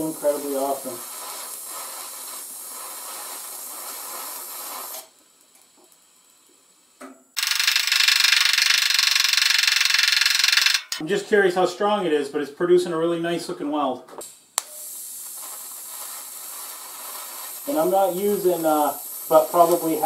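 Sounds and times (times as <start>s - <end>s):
welding arc hissing: 0.0s - 11.0s, 14.2s - 20.0s.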